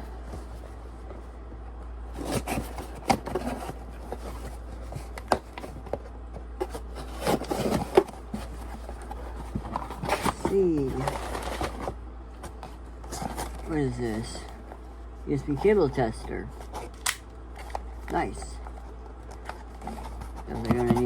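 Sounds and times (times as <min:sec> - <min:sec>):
low steady hum: 0:00.0 - 0:21.0
packaging rustling and scraping: 0:02.1 - 0:21.0.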